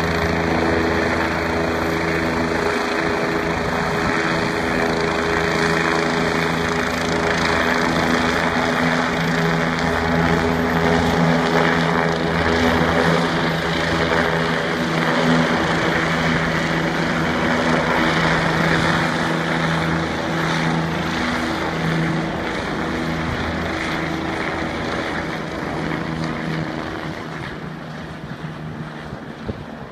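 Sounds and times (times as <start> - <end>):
helicopter flying past: 0.0 - 29.9.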